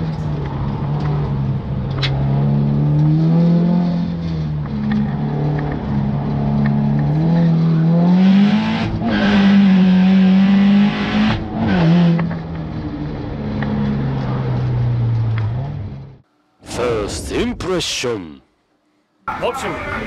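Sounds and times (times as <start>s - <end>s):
car engine at full throttle: 0.0s - 16.3s.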